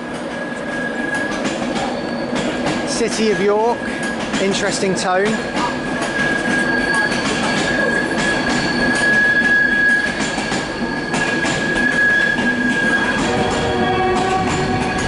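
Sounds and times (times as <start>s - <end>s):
train wheels squealing: 0.0s - 15.0s
wheels rumbling and clicking on rails: 0.0s - 15.0s.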